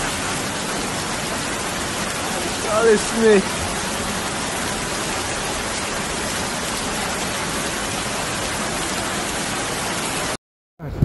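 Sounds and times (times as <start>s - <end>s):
floodwater rushing: 0.0s - 10.4s
heavy rain: 0.0s - 11.0s.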